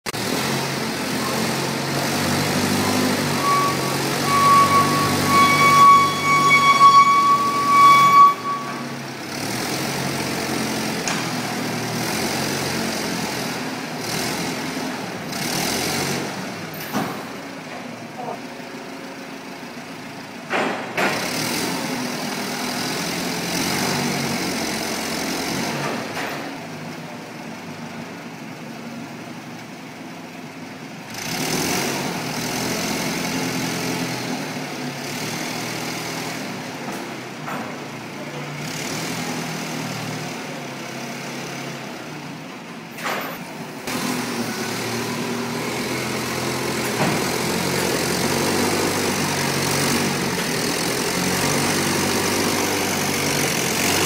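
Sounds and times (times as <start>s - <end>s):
vehicle engine running: 0.1s - 54.0s.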